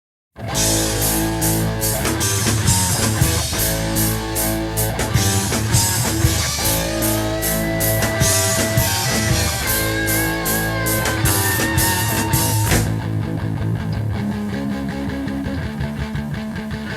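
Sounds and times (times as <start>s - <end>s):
instrumental rock band music: 0.4s - 16.9s.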